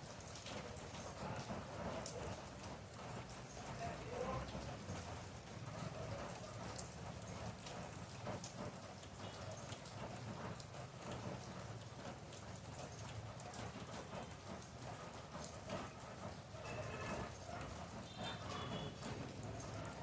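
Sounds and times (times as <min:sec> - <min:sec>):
steady rain falling: 0:00.0 - 0:20.0
raindrop ticks: 0:00.2 - 0:20.0.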